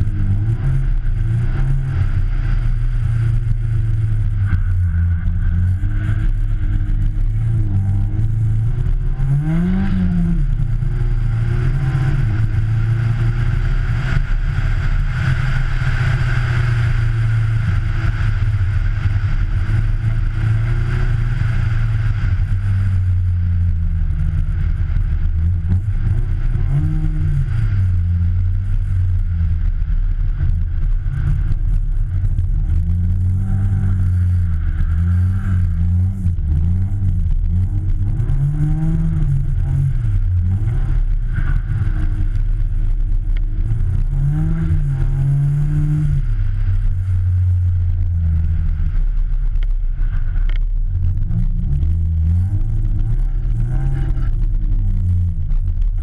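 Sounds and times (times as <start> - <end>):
rally car engine revving: 0.0 - 56.0
road and wind noise: 0.0 - 56.0.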